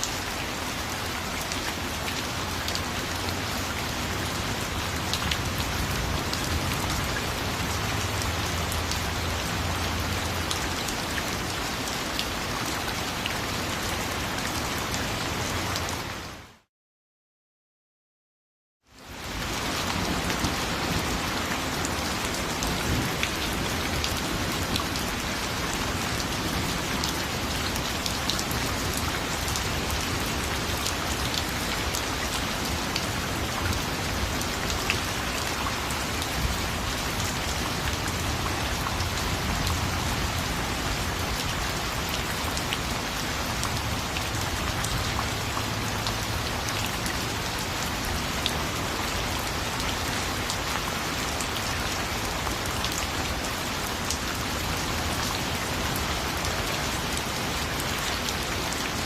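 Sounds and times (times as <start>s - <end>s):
raindrops ticking on surface: 0.0s - 15.9s, 18.9s - 59.0s
steady rain hiss: 0.0s - 16.6s, 18.9s - 59.0s.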